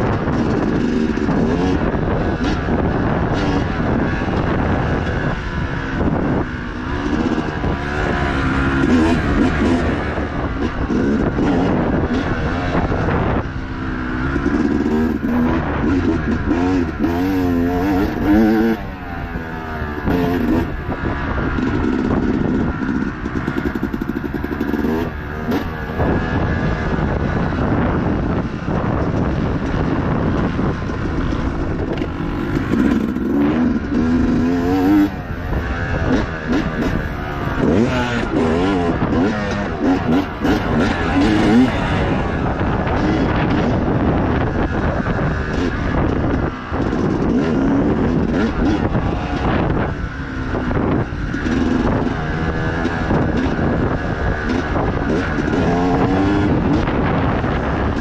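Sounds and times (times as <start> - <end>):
dirt bike engine revving hard: 0.0 - 58.0.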